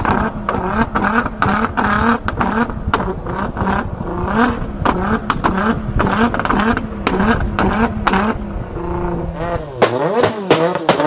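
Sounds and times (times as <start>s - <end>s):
car engine running: 0.0s - 11.0s
car exhaust popping and banging: 0.0s - 11.0s.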